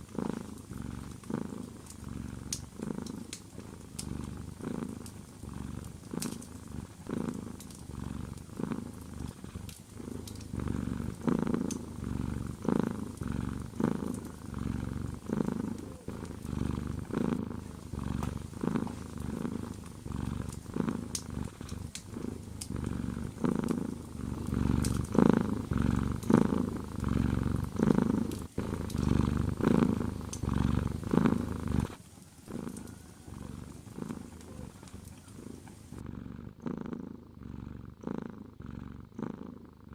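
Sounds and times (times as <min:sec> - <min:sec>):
cat purring: 0:00.0 - 0:39.9
wood fire crackling: 0:00.6 - 0:35.3.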